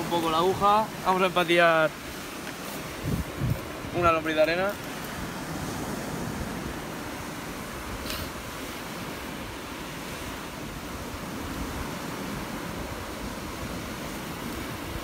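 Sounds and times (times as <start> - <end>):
sea surf on beach: 0.0 - 15.0
wind on microphone: 1.9 - 15.0.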